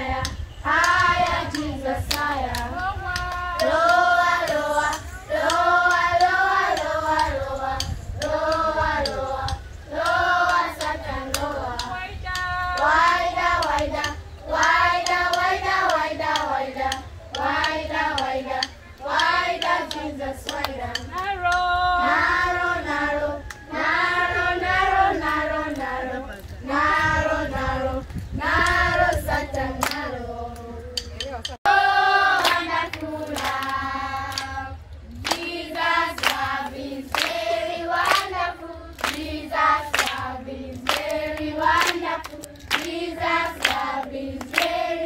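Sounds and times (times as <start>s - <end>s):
children and women singing: 0.0s - 45.0s
hand claps: 0.2s - 21.7s, 28.0s - 31.6s, 32.3s - 45.0s.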